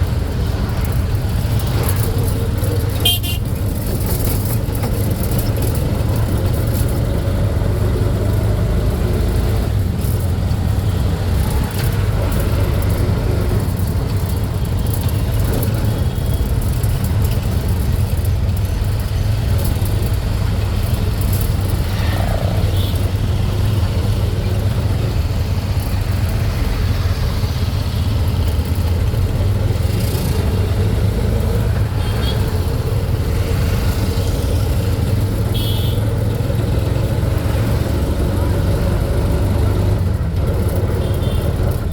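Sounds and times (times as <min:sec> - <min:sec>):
road vehicle rumbling: 0:00.0 - 0:41.9.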